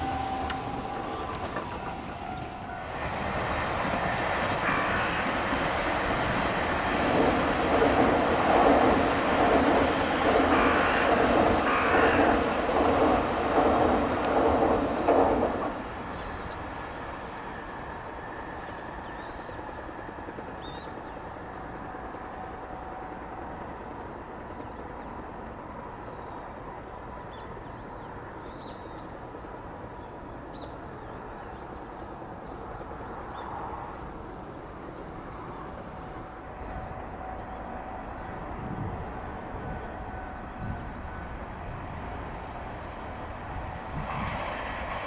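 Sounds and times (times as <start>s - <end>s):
electric train passing: 0.0s - 45.0s
rail rumble: 0.0s - 45.0s.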